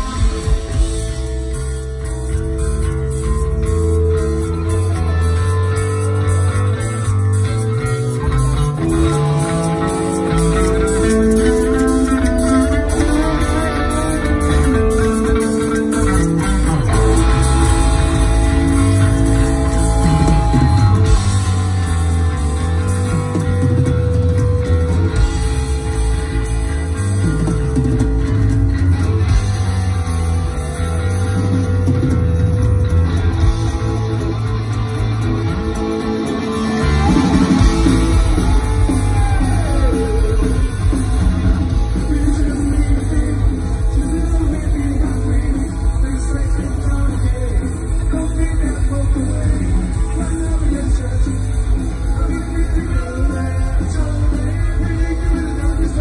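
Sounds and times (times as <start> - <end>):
drums: 0.0 - 56.0
electric bass: 0.0 - 56.0
electric guitar: 0.0 - 56.0.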